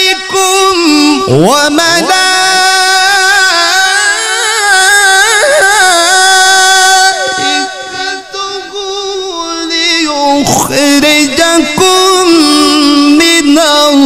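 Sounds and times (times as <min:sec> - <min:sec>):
man reciting melismatic chant: 0:00.0 - 0:14.0.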